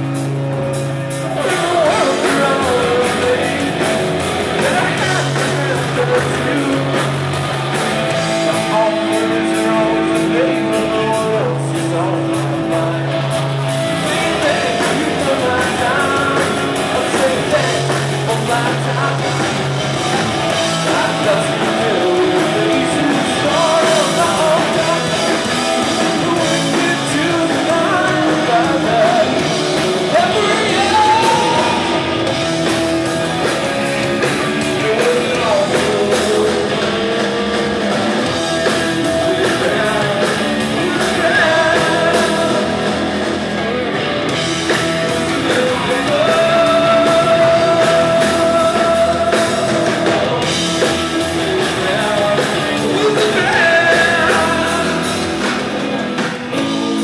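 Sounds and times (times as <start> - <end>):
rock band playing: 0.0 - 57.0
lead vocal singing: 1.0 - 57.0.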